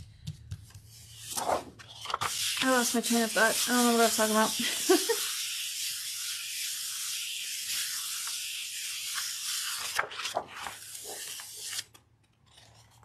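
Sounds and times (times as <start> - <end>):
paper rubbing on printing plate: 0.9 - 11.8.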